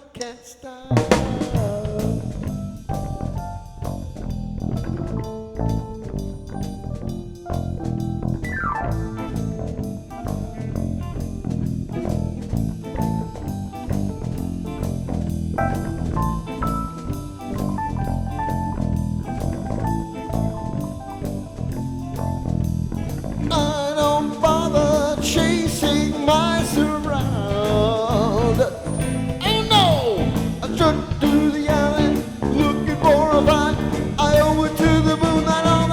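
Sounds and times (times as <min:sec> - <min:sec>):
bass: 0:00.9 - 0:35.9
drum kit: 0:00.9 - 0:35.9.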